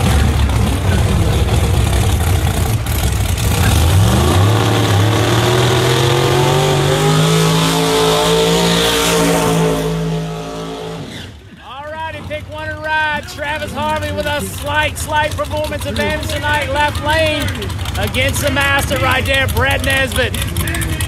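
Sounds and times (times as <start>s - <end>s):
race car engines at full throttle: 0.0s - 21.0s.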